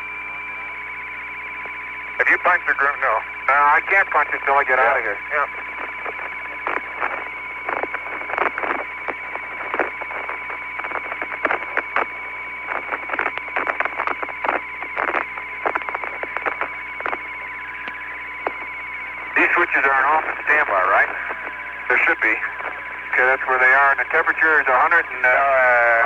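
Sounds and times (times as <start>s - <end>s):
radio static hiss: 0.0s - 26.0s
radio crackles and clicks: 0.2s - 26.0s.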